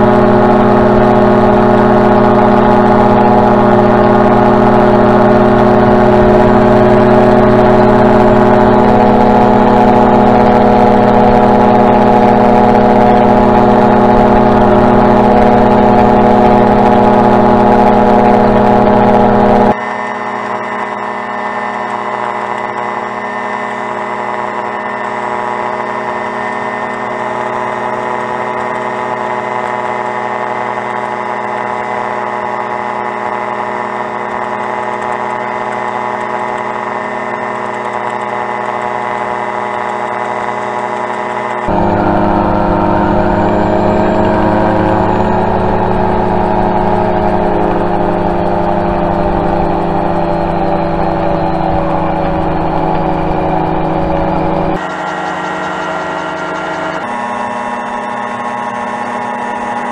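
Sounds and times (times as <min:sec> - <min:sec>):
autogyro engine and propeller: 0:00.0 - 0:59.9.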